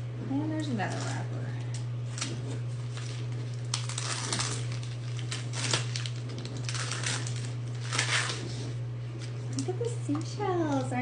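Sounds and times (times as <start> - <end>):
steady low hum: 0.0 - 11.0
plastic wrapper crinkling: 2.0 - 11.0.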